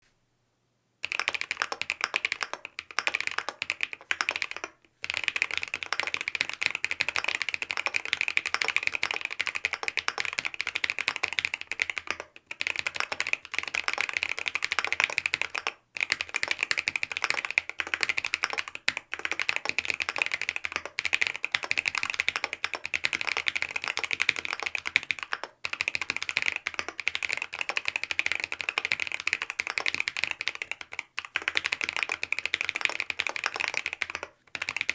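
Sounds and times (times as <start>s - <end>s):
mechanical keyboard typing: 1.0s - 34.9s.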